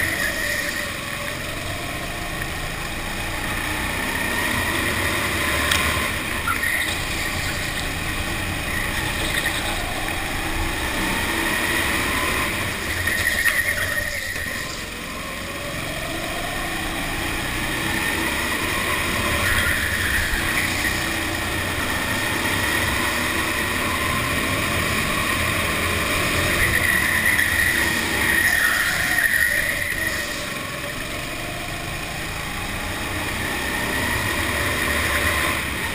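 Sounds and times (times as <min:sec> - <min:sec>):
go-kart engine accelerating: 0:00.0 - 0:35.9.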